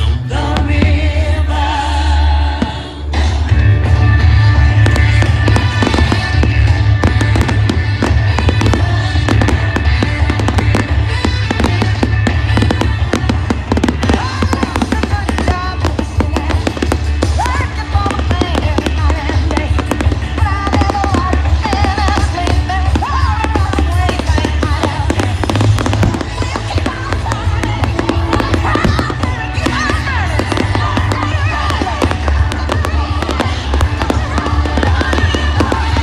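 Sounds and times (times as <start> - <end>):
music with heavy bass: 0.0 - 36.0
fireworks bursting: 2.6 - 36.0.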